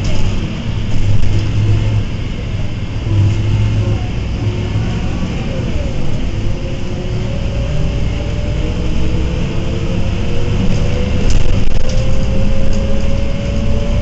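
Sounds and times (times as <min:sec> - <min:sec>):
bus diesel engine drone: 0:00.0 - 0:14.0
gearbox whine: 0:00.0 - 0:14.0.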